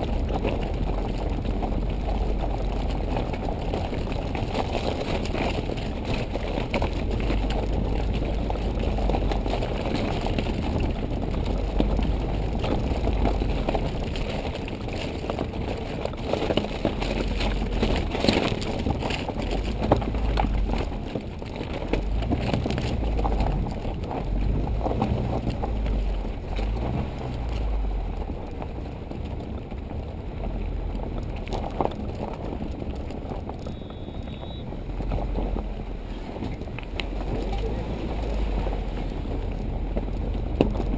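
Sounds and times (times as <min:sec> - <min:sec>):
vehicle engine and tyre rumble: 0:00.0 - 0:40.9
vehicle knocks and rattles: 0:00.0 - 0:40.9.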